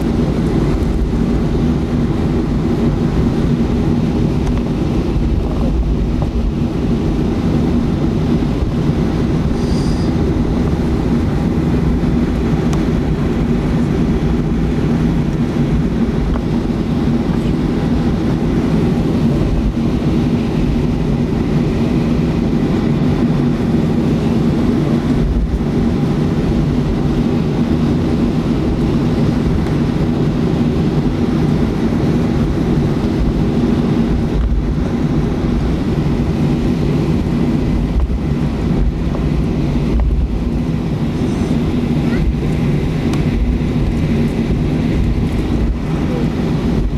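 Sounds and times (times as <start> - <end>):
jet engine rumble in cabin: 0.0 - 46.9.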